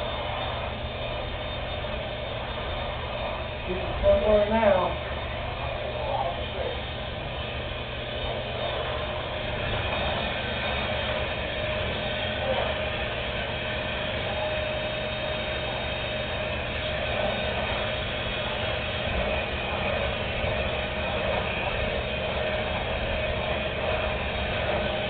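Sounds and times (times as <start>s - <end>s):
vacuum cleaner motor running: 0.0s - 25.0s.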